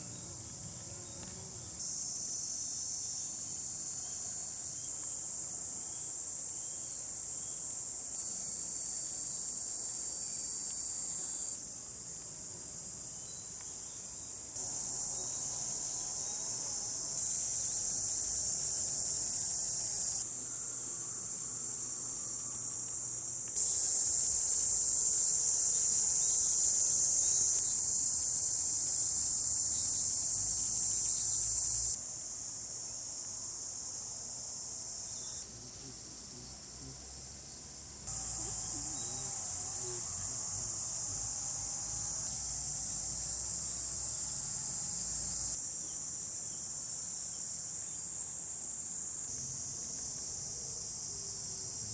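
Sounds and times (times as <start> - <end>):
cicadas droning: 0.0 - 51.9.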